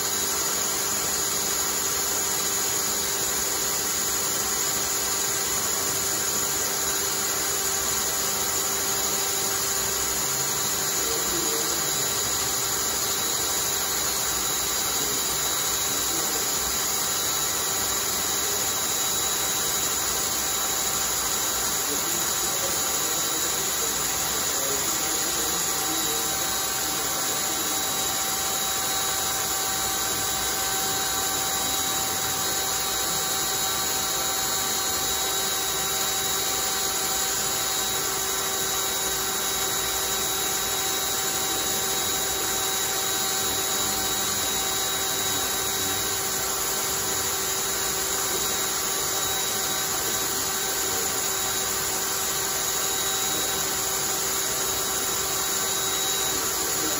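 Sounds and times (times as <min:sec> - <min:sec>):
cordless drill motor whine: 0:00.0 - 0:56.9.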